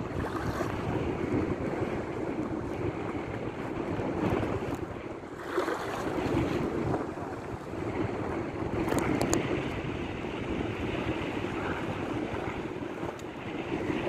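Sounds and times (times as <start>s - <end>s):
sea water splashing: 0.0s - 14.0s
wind buffeting microphone: 0.0s - 14.0s.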